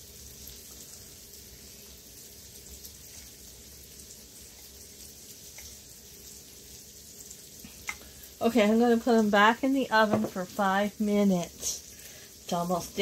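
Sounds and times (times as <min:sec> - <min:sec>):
kitchen background hiss: 0:00.0 - 0:13.0.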